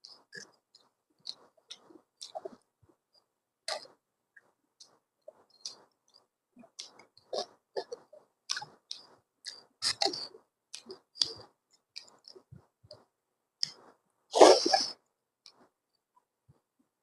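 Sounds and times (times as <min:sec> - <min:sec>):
person chewing food: 0:00.0 - 0:16.2.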